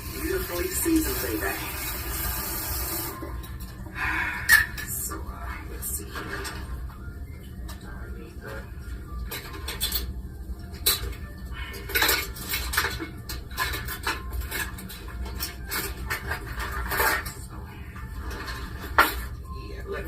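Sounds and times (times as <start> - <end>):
kitchen utensils and dishes clinking: 0.0 - 20.0.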